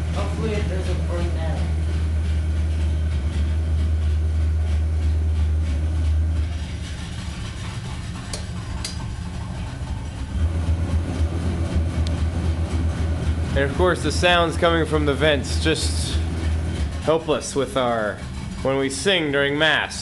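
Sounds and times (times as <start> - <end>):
air conditioning droning: 0.0 - 20.0.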